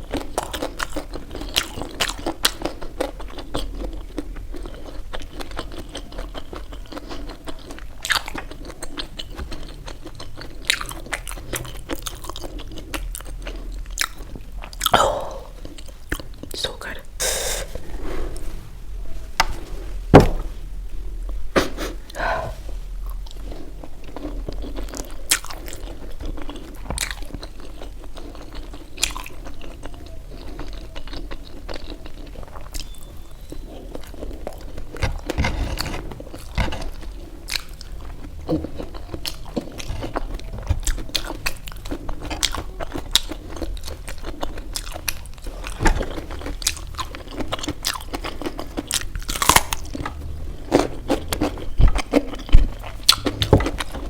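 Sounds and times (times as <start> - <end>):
wet chewing with crunchy bites: 0.0 - 16.6, 20.5 - 54.0.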